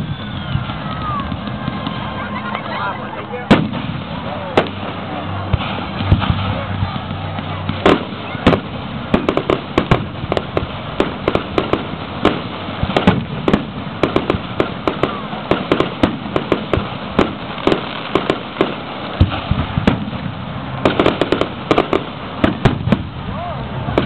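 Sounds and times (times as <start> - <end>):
steady background noise: 0.0 - 24.0
firework shells bursting: 3.4 - 23.2.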